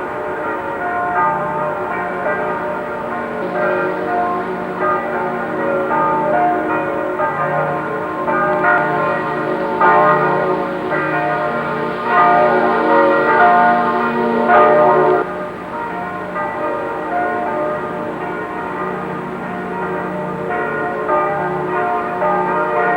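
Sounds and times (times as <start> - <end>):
church bells ringing: 0.0 - 22.9.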